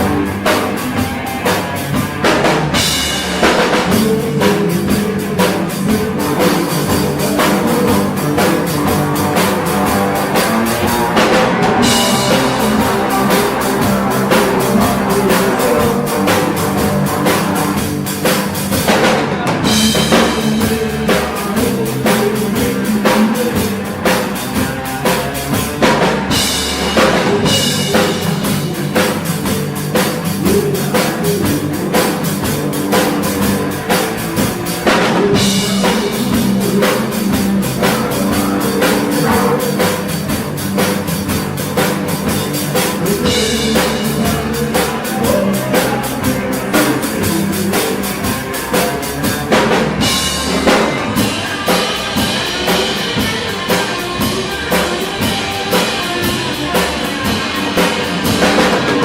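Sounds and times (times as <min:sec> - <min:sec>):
drum kit beat: 0:00.0 - 0:59.0
live rock band playing: 0:00.0 - 0:59.0.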